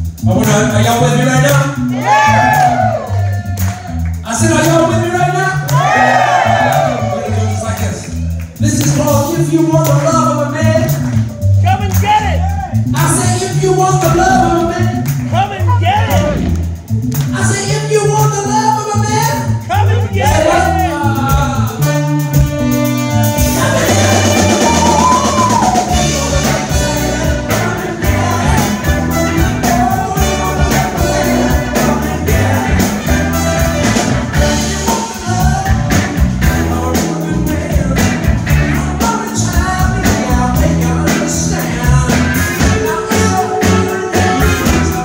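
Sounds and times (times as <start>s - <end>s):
bass guitar: 0.0s - 45.0s
drum kit: 0.0s - 45.0s
man singing: 0.2s - 12.0s, 12.8s - 16.5s, 17.3s - 22.2s, 23.4s - 45.0s.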